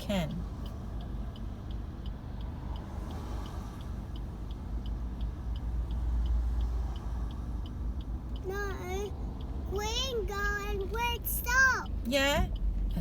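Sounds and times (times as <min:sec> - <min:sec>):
low vehicle rumble: 0:00.0 - 0:13.0
turn signal ticking: 0:00.0 - 0:13.0.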